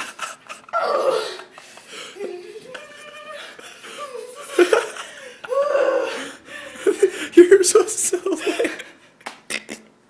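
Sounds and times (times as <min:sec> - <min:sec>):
person laughing: 0:01.3 - 0:09.9.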